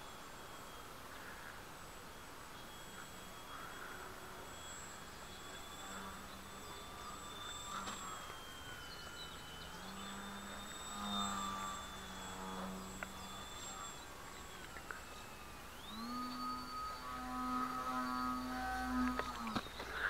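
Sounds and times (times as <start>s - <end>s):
model plane propeller buzzing: 0.0s - 20.0s.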